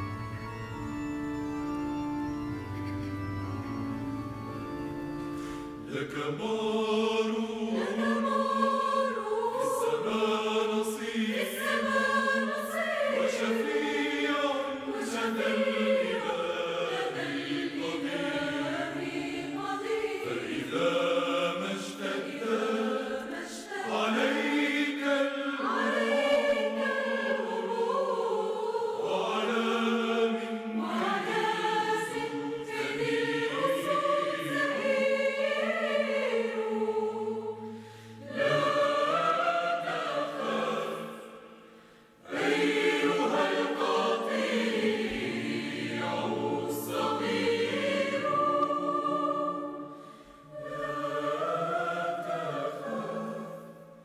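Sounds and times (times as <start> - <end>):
mixed choir singing a hymn: 5.4 - 54.0.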